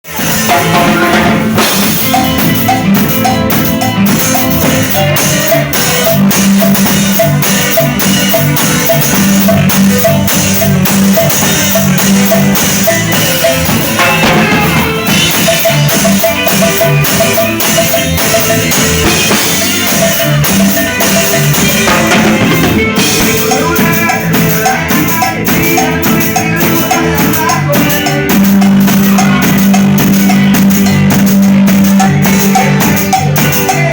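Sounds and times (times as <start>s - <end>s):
drum breaks: 0.0s - 33.9s
live cumbia band music: 0.0s - 33.9s.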